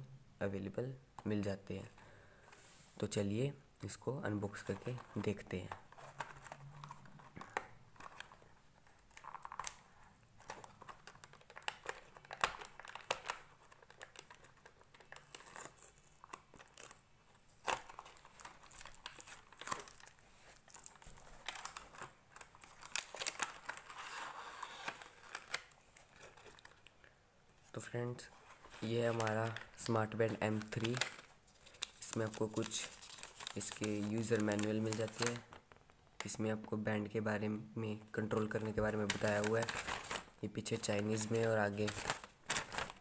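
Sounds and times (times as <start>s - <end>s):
plastic packaging crinkling: 4.5s - 26.9s, 28.4s - 36.4s, 38.3s - 43.0s.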